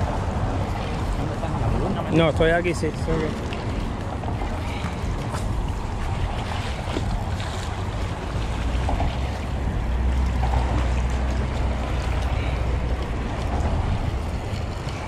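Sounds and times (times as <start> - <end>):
small waves lapping on rocks: 0.0 - 15.0
wind buffeting microphone: 0.0 - 15.0.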